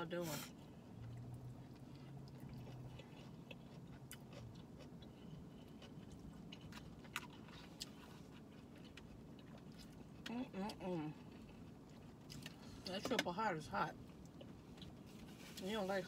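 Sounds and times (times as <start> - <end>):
faint chewing: 0.6 - 13.2, 13.9 - 15.6.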